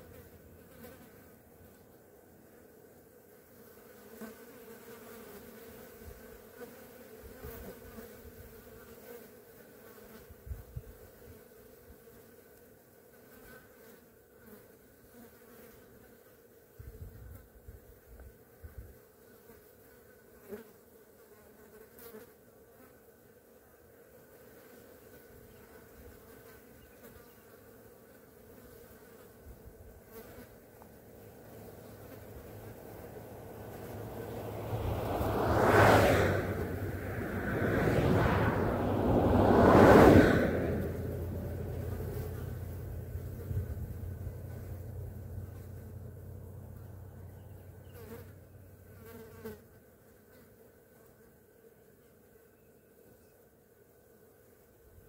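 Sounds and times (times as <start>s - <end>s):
flies buzzing: 0.0s - 55.0s.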